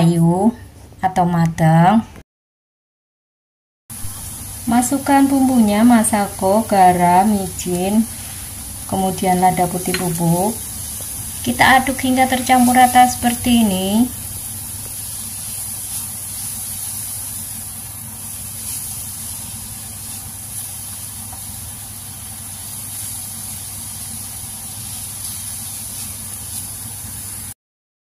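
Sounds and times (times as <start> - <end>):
vegetables sizzling in oil: 3.9 - 27.6.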